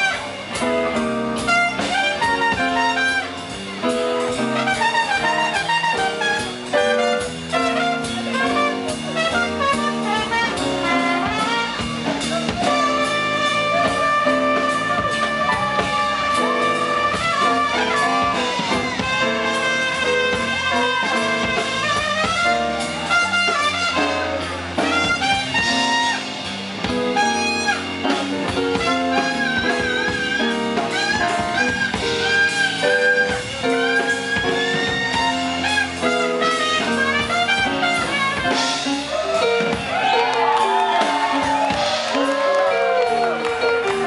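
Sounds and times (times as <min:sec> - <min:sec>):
jazz band playing: 0:00.0 - 0:44.0
trumpet: 0:00.0 - 0:44.0.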